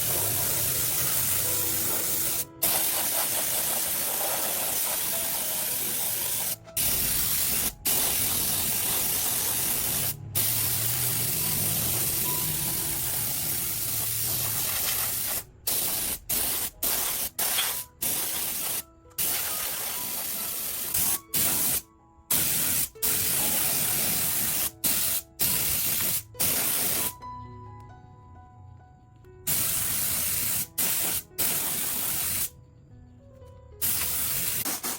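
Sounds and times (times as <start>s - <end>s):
pressurised spray hissing: 0.0s - 27.2s, 29.5s - 32.5s, 33.8s - 34.9s.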